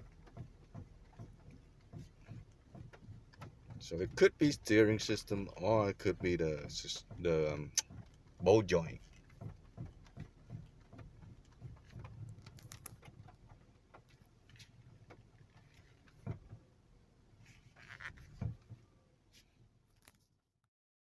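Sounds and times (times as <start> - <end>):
steering suspension knocks and clicks: 0.0 - 19.0.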